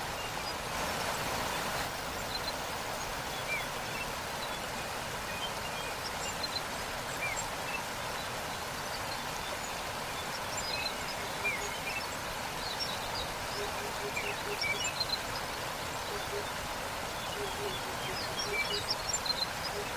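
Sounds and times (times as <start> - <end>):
waterfall rushing: 0.0 - 19.9
small birds chirping: 2.2 - 19.9.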